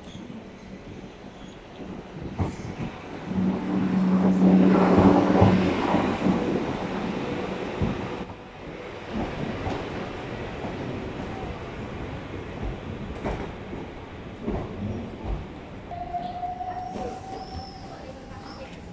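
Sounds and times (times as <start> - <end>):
train rumbling into platform: 0.0 - 18.9.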